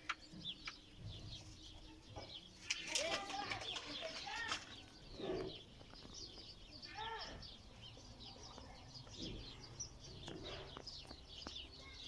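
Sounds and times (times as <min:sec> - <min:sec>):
pigeons calling: 0:00.0 - 0:12.0.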